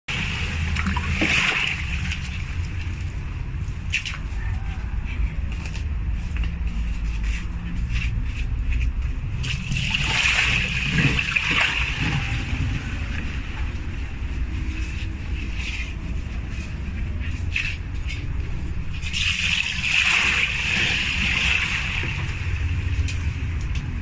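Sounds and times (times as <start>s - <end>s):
steady low rumble: 0.1s - 24.0s
water splashing and sloshing: 0.1s - 24.0s.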